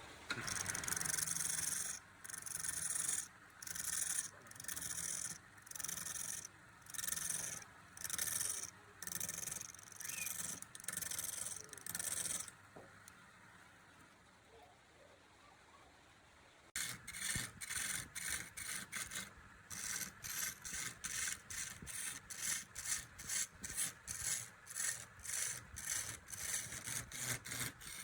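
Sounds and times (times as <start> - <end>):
hand tool rasping on wood: 0.4 - 12.5, 16.8 - 28.0.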